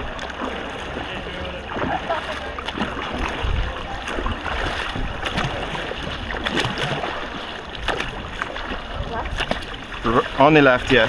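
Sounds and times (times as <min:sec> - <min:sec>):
kayak paddles splashing water: 0:00.0 - 0:11.0.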